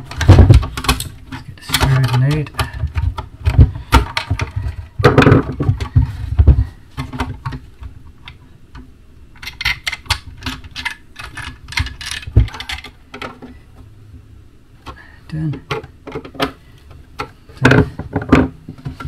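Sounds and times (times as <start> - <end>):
heavy knocks and handling: 0.0 - 8.0, 8.8 - 13.6, 14.8 - 19.0.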